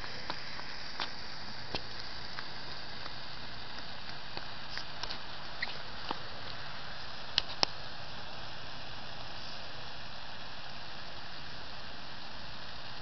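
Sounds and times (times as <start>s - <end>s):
garden sprinkler hissing: 0.0s - 13.0s.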